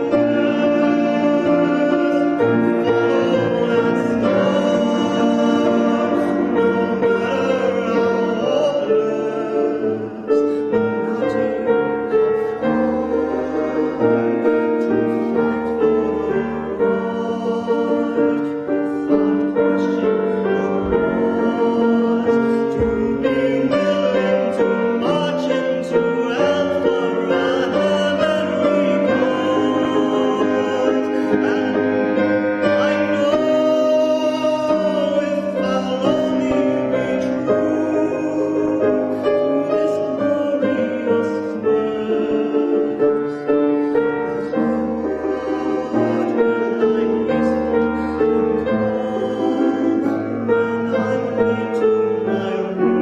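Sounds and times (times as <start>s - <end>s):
person singing: 0.0s - 53.0s
piano accompaniment: 0.0s - 53.0s.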